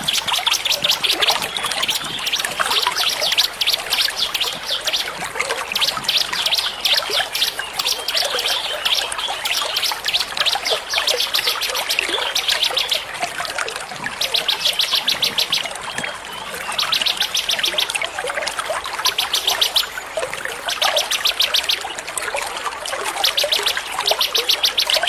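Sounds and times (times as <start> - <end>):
songbirds chirping: 0.0 - 25.0
trickling water: 0.0 - 25.0.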